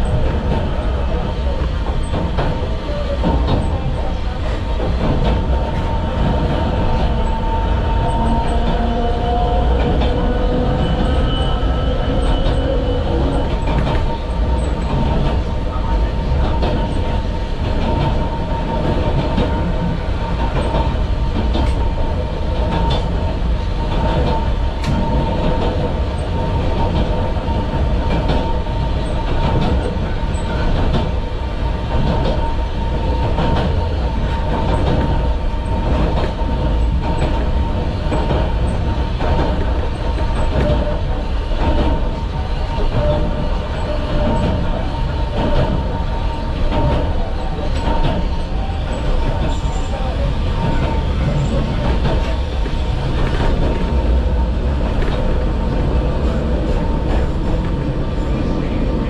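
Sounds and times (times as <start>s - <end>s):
electric train hum and whine: 0.0s - 59.0s
wheels clicking on rails: 0.0s - 59.0s.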